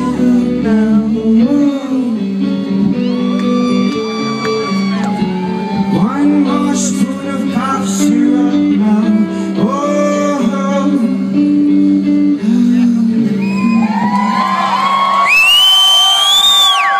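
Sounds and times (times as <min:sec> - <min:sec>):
live rock band playing: 0:00.0 - 0:15.3.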